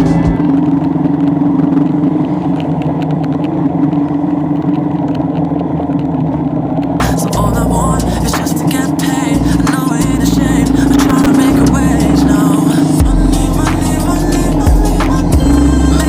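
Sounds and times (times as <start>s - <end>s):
road and wind noise: 0.0s - 15.9s
vehicle engine hum: 0.0s - 16.0s.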